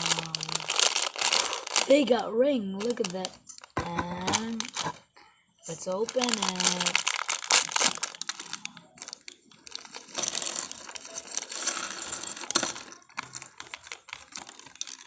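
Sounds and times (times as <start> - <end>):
packaging rustling and crinkling: 0.0 - 2.1, 2.8 - 5.1, 5.7 - 15.0
plastic pieces clattering: 0.0 - 2.1, 2.8 - 15.0.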